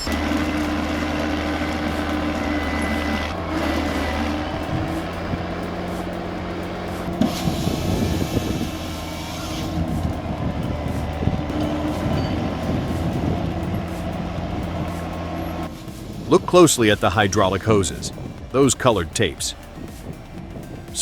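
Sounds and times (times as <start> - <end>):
heavy diesel engine running: 0.0 - 21.0
hissing rush: 0.0 - 21.0.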